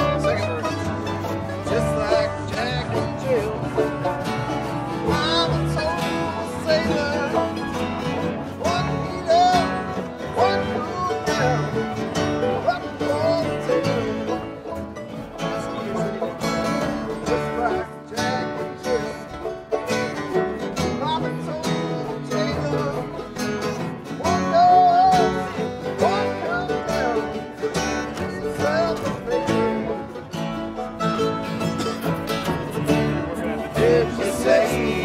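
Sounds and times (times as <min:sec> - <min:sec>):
banjo: 0:00.0 - 0:35.0
bluegrass string band playing: 0:00.0 - 0:35.0
mandolin: 0:00.0 - 0:35.0
upright bass: 0:00.0 - 0:35.0.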